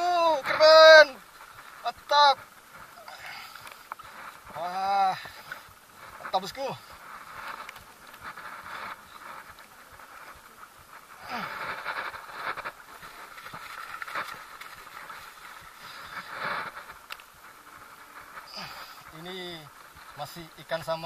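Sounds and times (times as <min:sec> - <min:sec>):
wind: 0:00.0 - 0:21.0
small waves washing around boat: 0:00.2 - 0:20.3.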